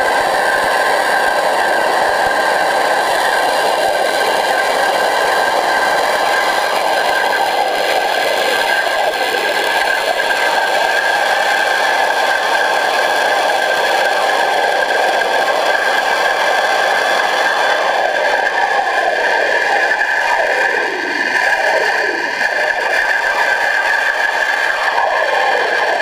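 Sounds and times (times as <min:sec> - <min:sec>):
pressure washer spraying underwater: 0:00.0 - 0:26.0.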